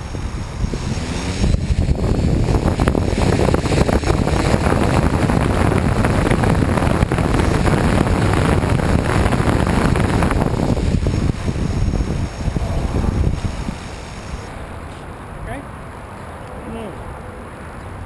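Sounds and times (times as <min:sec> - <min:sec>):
drone motors and propellers: 0:00.0 - 0:15.3
wind buffeting microphone: 0:00.0 - 0:17.2.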